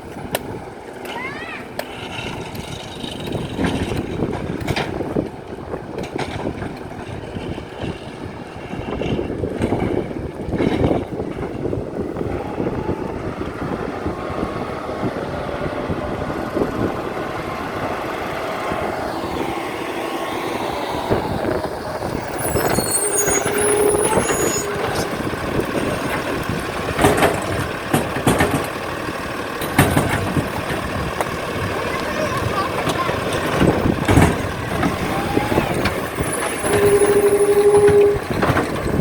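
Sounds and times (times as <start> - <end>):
garbage truck engine running: 0.0 - 39.0.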